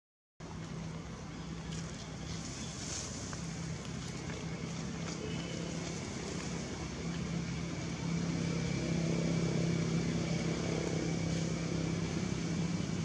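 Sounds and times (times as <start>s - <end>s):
constant hiss: 0.4s - 13.0s
low mechanical hum: 0.4s - 13.0s.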